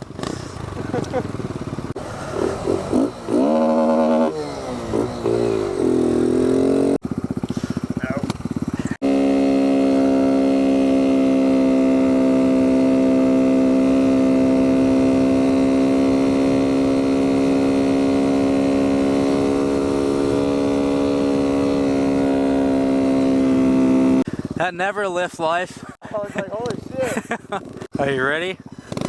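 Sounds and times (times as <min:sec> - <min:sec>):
motorcycle engine running: 0:00.0 - 0:25.0, 0:25.8 - 0:29.0.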